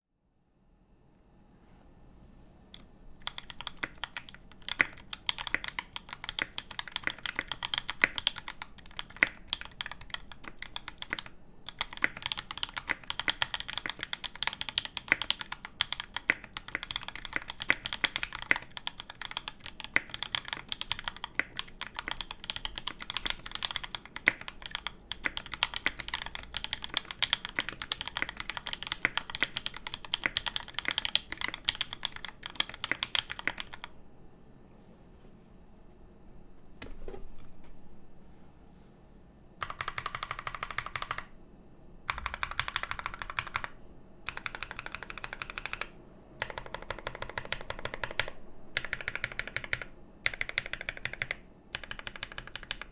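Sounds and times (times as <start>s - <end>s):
mechanical keyboard typing: 2.7s - 33.9s, 39.6s - 41.3s, 42.1s - 52.9s.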